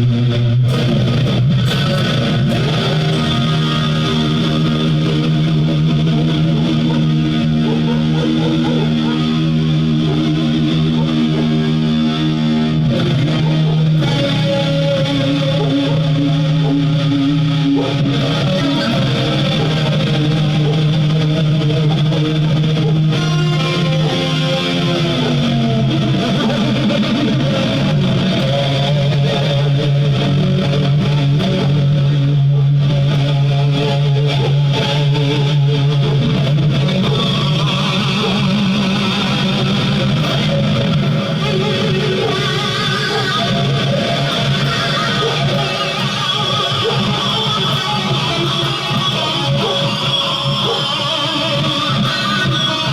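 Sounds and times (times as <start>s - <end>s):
electric guitar chords: 0.0s - 52.9s.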